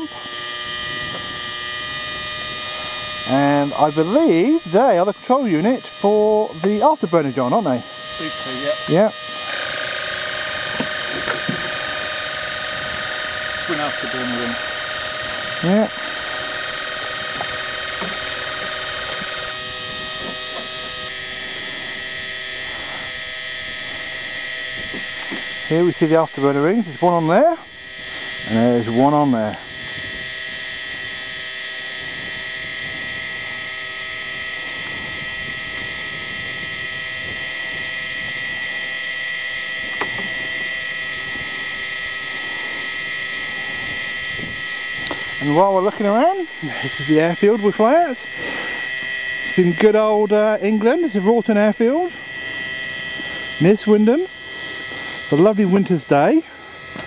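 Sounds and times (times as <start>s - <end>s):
mechanical whine: 0.0s - 57.0s.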